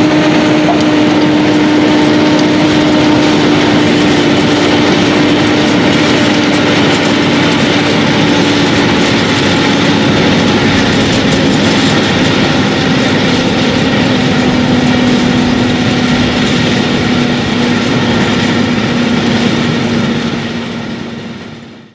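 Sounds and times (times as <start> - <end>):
tractor diesel engine droning: 0.0 - 21.9.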